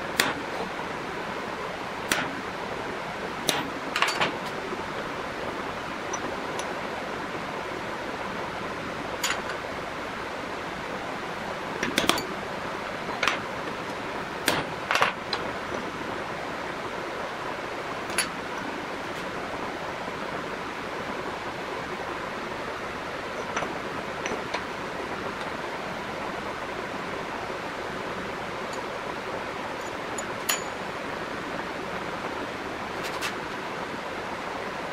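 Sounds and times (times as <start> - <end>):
steady background hiss: 0.0 - 34.9.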